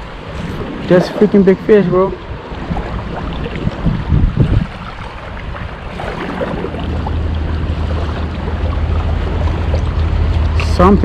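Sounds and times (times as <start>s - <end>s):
shallow water washing: 0.0s - 11.0s
steady low rumble: 0.0s - 11.0s
wind buffeting microphone: 0.0s - 11.0s.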